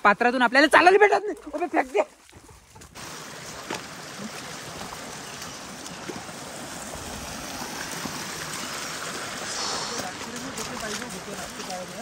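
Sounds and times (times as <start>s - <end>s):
stream running over rocks: 0.0s - 12.0s.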